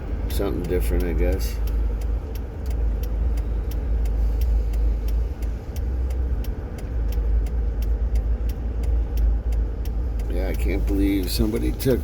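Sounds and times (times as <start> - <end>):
faint regular ticking: 0.0 - 12.0
vehicle engine and road rumble: 0.0 - 12.0.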